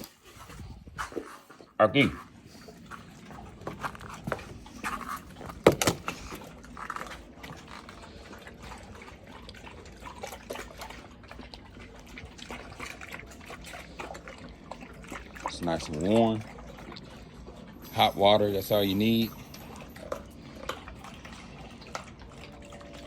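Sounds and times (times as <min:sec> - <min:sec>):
wet splashing and dripping: 0:02.3 - 0:23.0.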